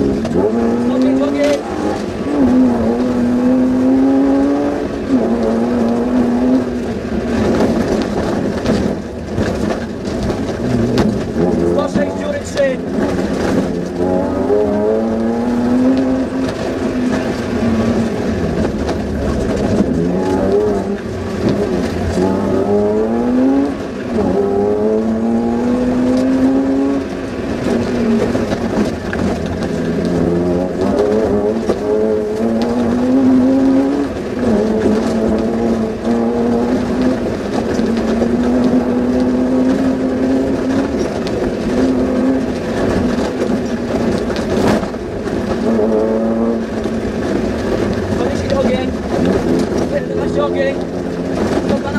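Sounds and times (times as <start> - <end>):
car engine revving through gears: 0.0 - 51.9.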